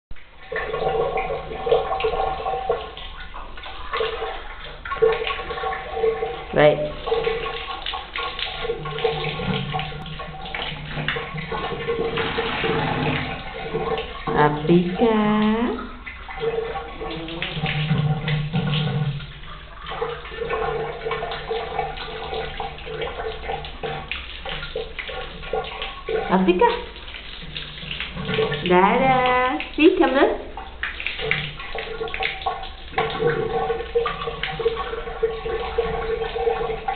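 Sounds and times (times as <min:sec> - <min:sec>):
tap water running into sink: 0:00.2 - 0:36.9.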